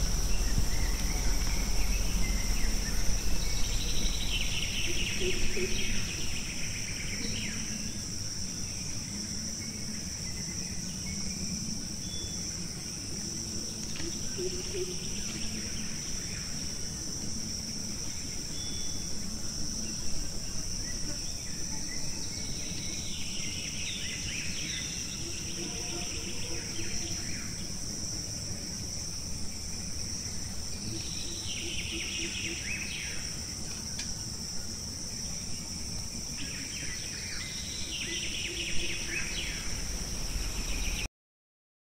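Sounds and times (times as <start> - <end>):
insects droning: 0.0 - 41.1.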